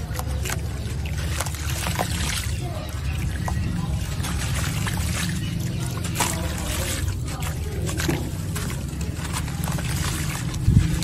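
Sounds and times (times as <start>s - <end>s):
water trickling into a basin: 0.0s - 11.0s.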